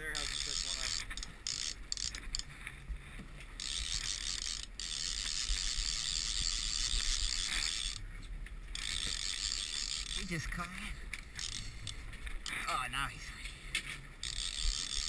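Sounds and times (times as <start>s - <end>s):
fishing reel whirring: 0.0s - 2.6s, 3.6s - 8.1s, 8.7s - 12.9s, 14.1s - 15.0s.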